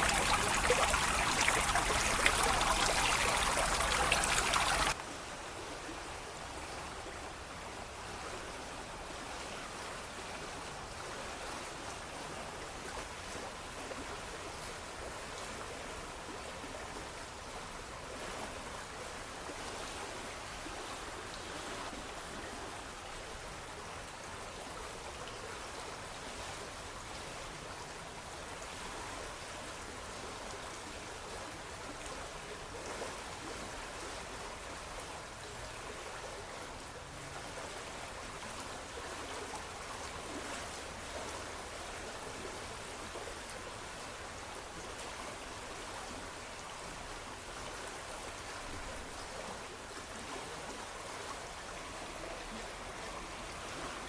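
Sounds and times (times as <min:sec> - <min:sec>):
running water babbling: 0:00.0 - 0:54.0.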